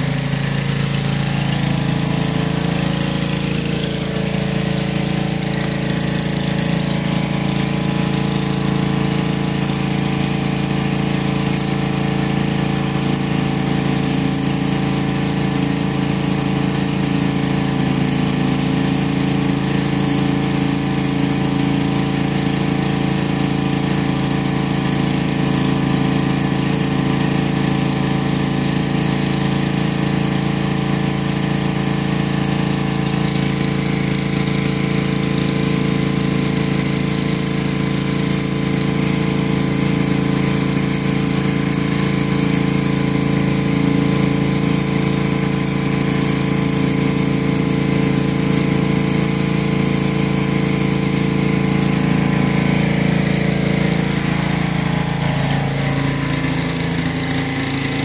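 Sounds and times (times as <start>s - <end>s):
pressure washer engine running: 0.0s - 58.0s.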